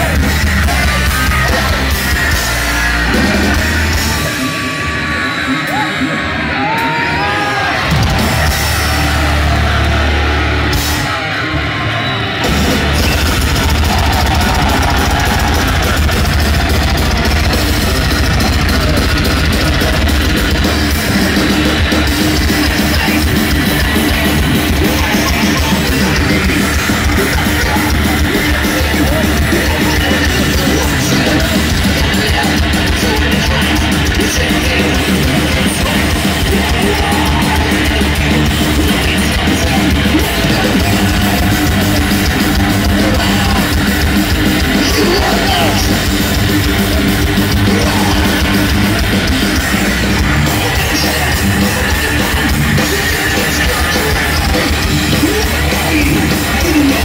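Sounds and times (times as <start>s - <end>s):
distorted electric guitars: 0.0s - 57.0s
drums: 0.0s - 57.0s.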